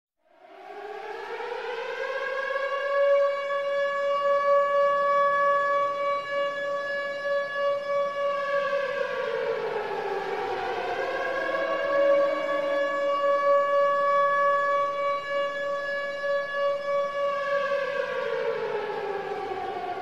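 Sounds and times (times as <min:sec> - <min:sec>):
siren wailing: 0:00.3 - 0:20.0.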